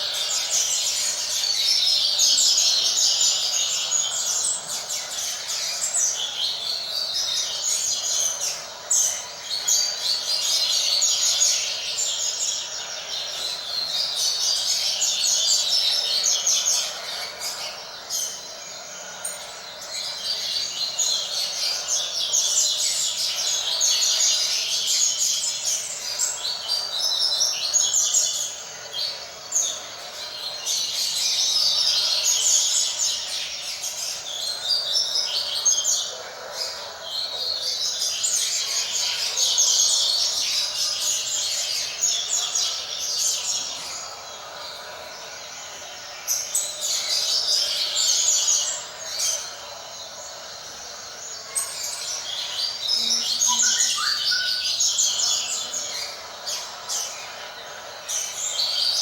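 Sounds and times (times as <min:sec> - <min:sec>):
bird high twittering song: 0:00.0 - 0:59.0.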